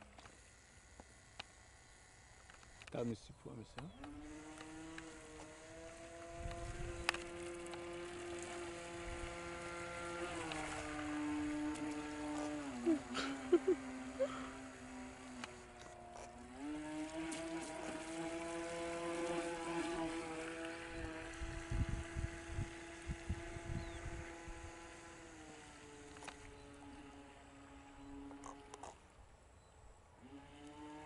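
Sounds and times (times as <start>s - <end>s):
model speedboat motor humming: 0.0s - 31.0s.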